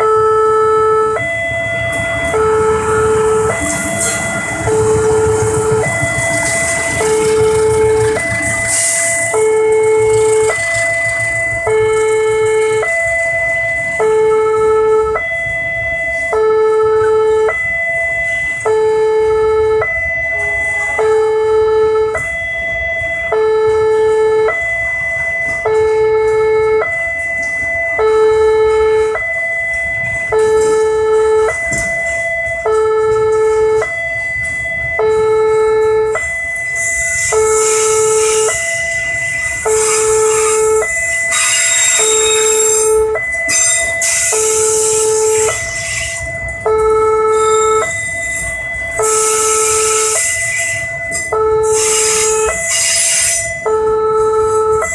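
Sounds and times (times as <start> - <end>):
two-tone crossing alarm: 0.0 - 54.9
freight train passing: 0.8 - 16.3, 18.0 - 25.6, 28.4 - 54.9.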